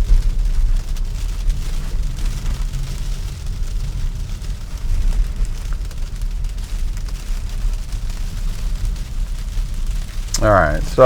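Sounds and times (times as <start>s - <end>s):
tyre and road rumble: 0.0s - 11.0s.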